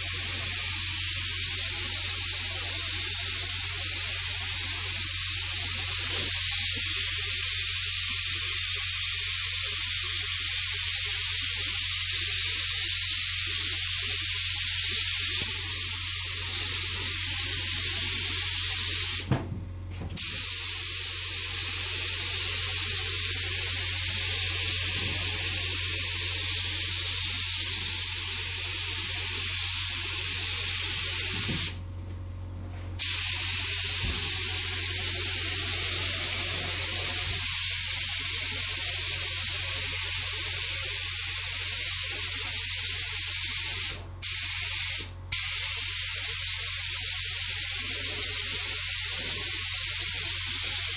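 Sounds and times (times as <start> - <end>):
spray paint hissing: 0.0 - 19.4, 20.2 - 31.8, 33.0 - 50.9.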